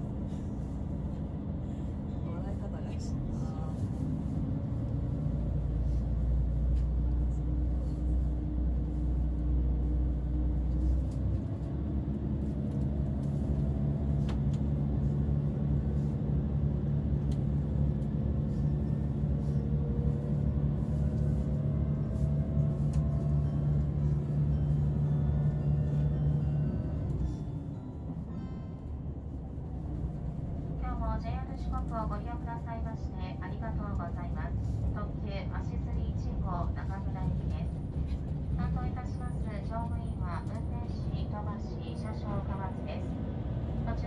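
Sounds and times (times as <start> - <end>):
diesel railcar engine drone: 0.0 - 44.0.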